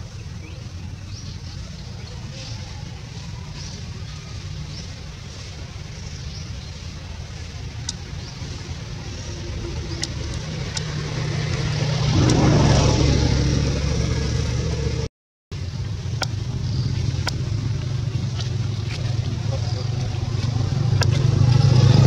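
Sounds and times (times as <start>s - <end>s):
vehicle engine humming past: 0.0s - 22.0s.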